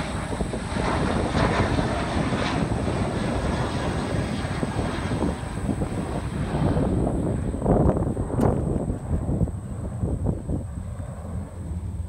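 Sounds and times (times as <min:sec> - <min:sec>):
distant jet engines roaring: 0:00.0 - 0:12.0.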